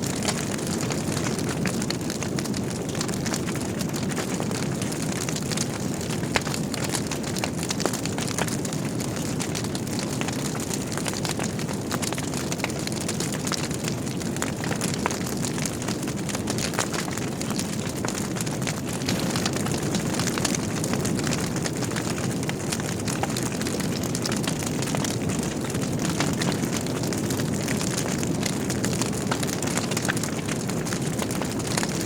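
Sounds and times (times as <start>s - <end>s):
fire flames rushing: 0.0s - 32.0s
wood crackling and snapping: 0.0s - 32.0s.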